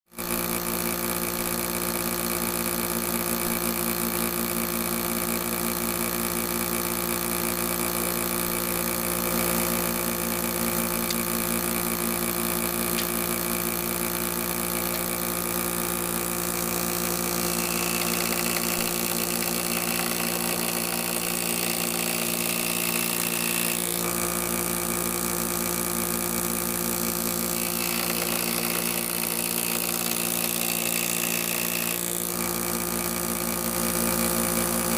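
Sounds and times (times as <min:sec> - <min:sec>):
electric power tool running: 0:00.1 - 0:34.9.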